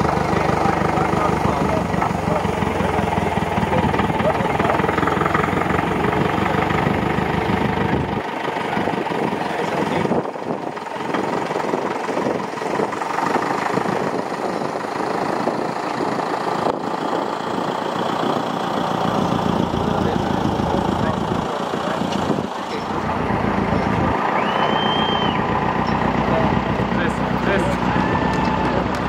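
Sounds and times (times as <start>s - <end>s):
tow tractor engine idling: 0.0s - 29.0s.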